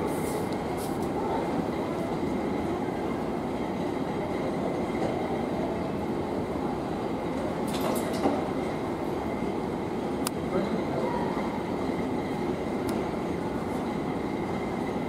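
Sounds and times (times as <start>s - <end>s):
train car rumble: 0.0s - 15.0s.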